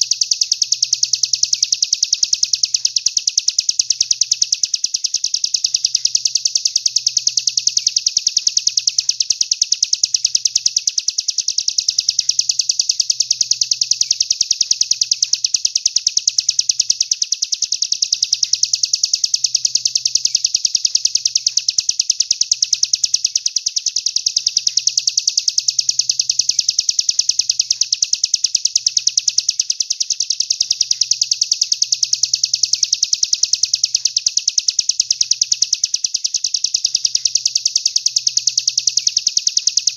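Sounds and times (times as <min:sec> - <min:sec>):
songbird high chirps: 0:03.8 - 0:39.9.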